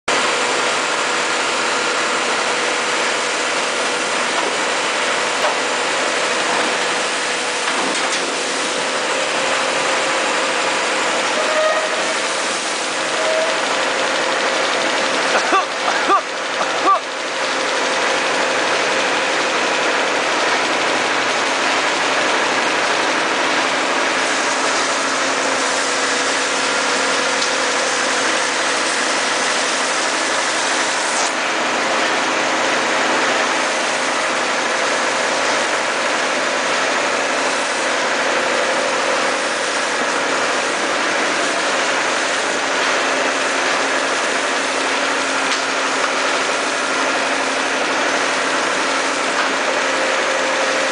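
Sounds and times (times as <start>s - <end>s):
conveyor machinery humming: 0.1s - 50.9s.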